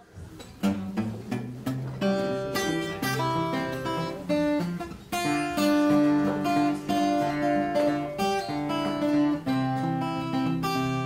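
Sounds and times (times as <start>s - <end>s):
plucked string instrument melody: 0.2s - 11.0s.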